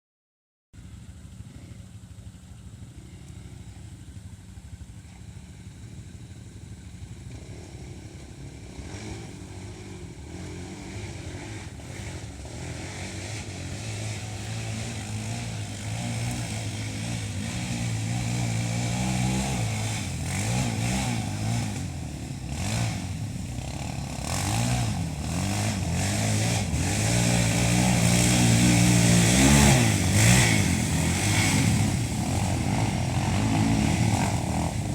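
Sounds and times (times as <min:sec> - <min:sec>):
motorcycle engine revving: 0:00.8 - 0:34.9.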